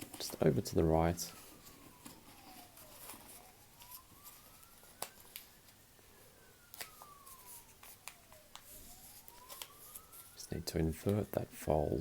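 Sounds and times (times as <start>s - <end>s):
paper crackling and creasing: 0.0s - 5.8s, 6.7s - 11.3s
faint distant siren wailing: 0.0s - 12.0s.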